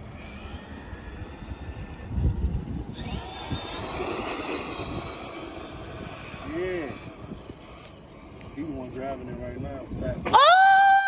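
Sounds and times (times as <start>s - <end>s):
electric motor whining: 0.0s - 9.3s.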